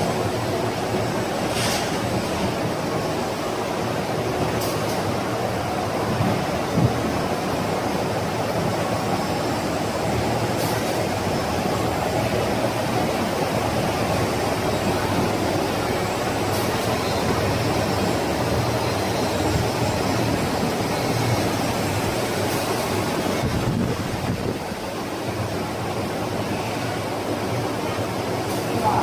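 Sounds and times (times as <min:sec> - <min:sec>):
machine running with low hum: 0:00.0 - 0:29.0.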